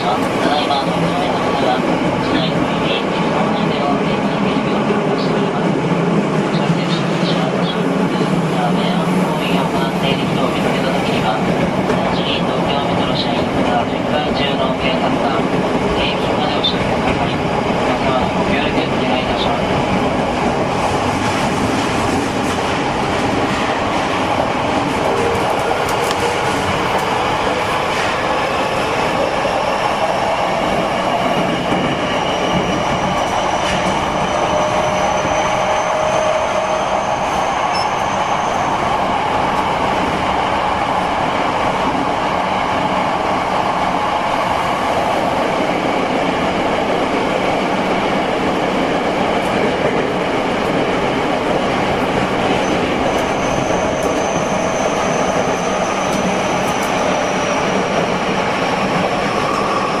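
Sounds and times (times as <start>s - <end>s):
subway train wheels rumbling on rail: 0.0s - 60.0s.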